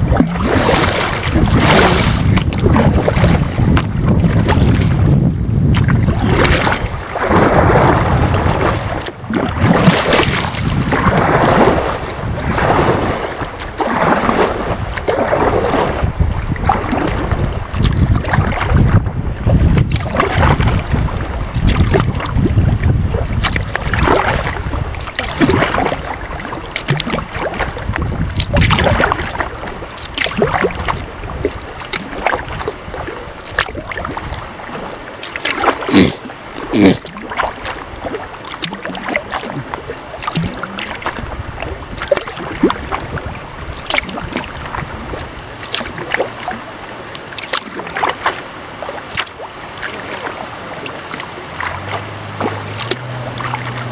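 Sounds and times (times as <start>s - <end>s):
wind buffeting microphone: 0.0s - 35.0s, 37.0s - 46.6s
paddle strokes splashing water: 0.0s - 53.9s.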